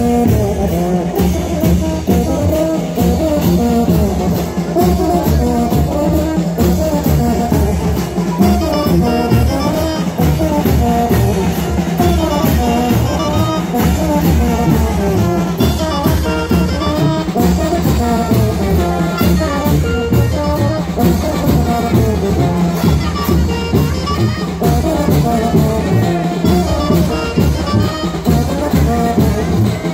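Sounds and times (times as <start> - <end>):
brass band playing: 0.0 - 29.9
drums beating: 0.0 - 29.9.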